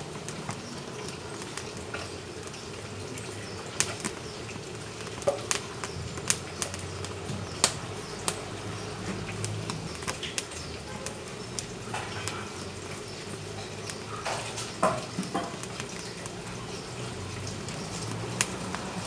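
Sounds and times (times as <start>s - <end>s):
firewood crackling and popping: 0.0s - 19.0s.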